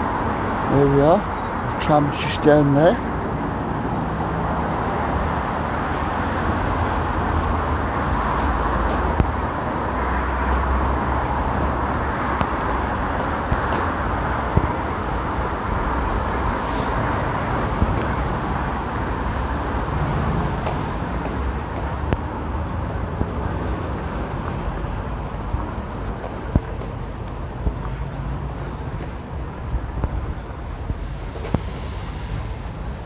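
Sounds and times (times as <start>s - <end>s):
road traffic rumbling: 0.0s - 33.0s.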